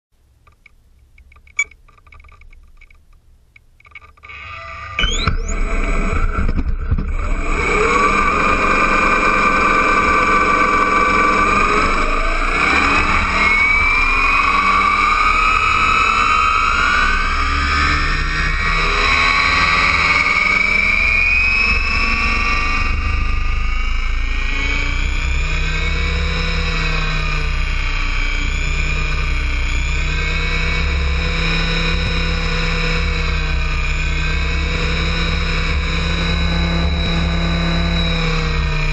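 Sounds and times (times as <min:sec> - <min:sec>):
model helicopter rotor whining: 0:04.1 - 0:38.9.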